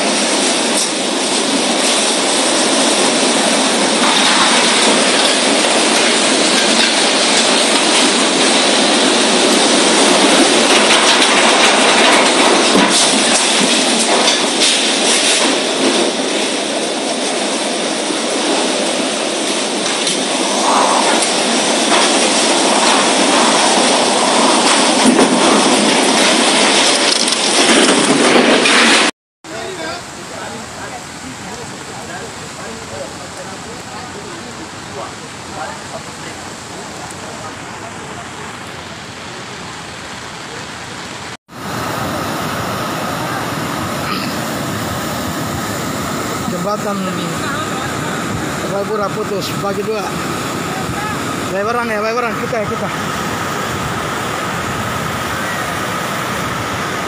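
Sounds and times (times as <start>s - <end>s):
storm rushing noise: 0.0s - 57.0s.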